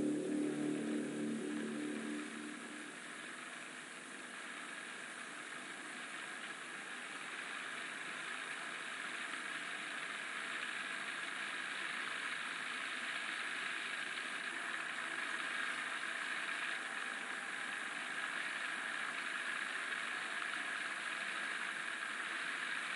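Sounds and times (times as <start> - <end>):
steady hiss: 0.0 - 22.9.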